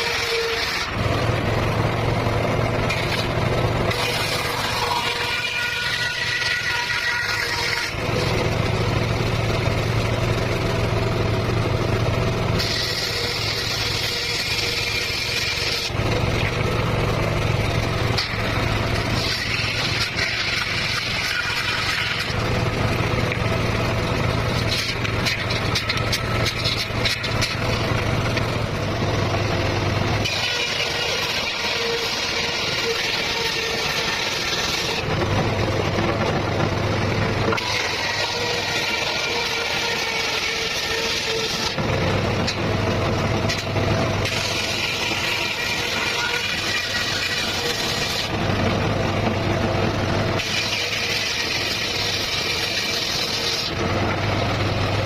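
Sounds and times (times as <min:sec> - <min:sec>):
circular saw cutting bamboo: 0:00.0 - 0:55.0.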